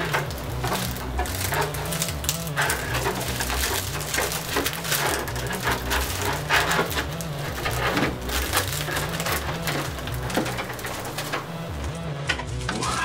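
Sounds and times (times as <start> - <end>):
background music bass line: 0.0 - 13.0
plastic film crinkling: 0.0 - 13.0.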